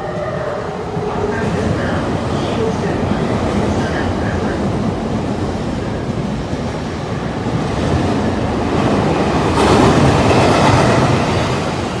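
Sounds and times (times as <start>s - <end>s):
train wheels rumbling and clattering: 0.0s - 12.0s.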